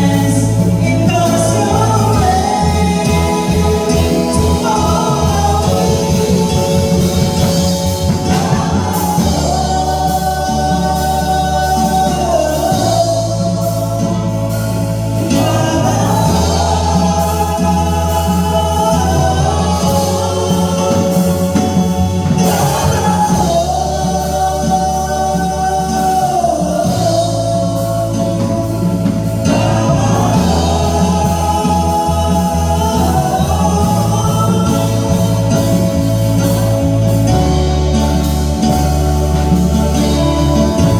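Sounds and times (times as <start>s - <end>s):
gospel singing: 0.0s - 40.9s
steady bass: 0.0s - 40.9s.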